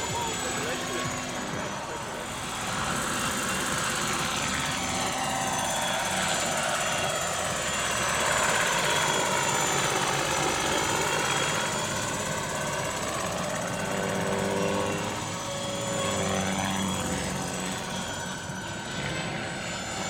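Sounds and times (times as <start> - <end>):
high motor whine: 0.0 - 20.0
model helicopter rotor beating: 0.0 - 20.0.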